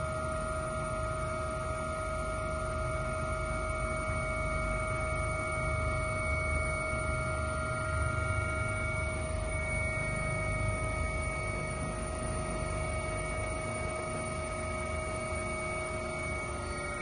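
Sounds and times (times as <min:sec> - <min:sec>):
helicopter cockpit drone: 0:00.0 - 0:17.0
steady whining tones: 0:00.0 - 0:17.0.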